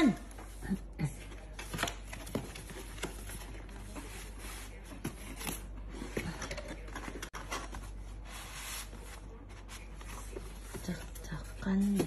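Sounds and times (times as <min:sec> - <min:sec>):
cardboard and paper rustling: 0:00.2 - 0:12.0.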